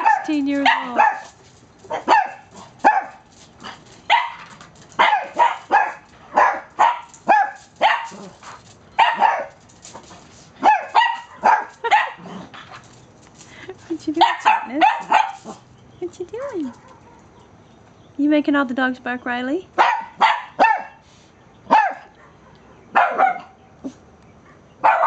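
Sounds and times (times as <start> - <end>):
small dogs barking: 0.0 - 13.0, 14.1 - 15.7, 16.4 - 17.5, 19.7 - 25.0.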